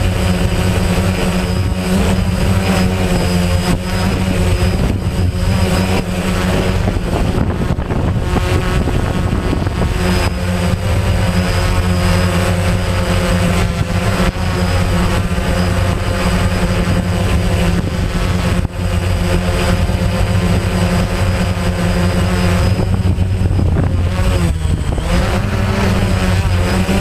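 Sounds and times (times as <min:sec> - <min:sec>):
drone propellers humming: 0:00.0 - 0:27.0
gusting wind noise: 0:00.0 - 0:27.0.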